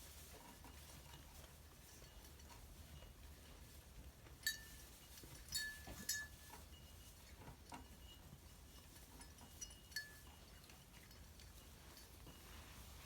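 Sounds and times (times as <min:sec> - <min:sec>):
sheep bell clinking: 0:00.9 - 0:12.8.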